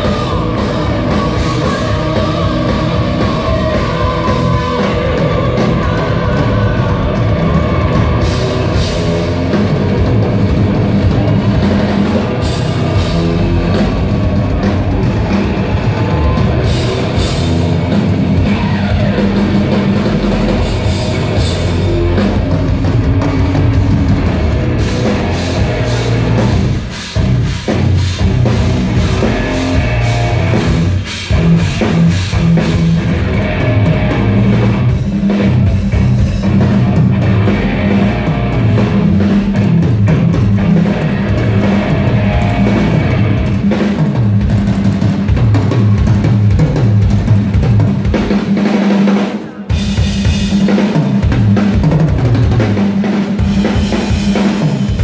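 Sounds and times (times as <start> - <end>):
symphonic metal band playing: 0.0 - 55.0.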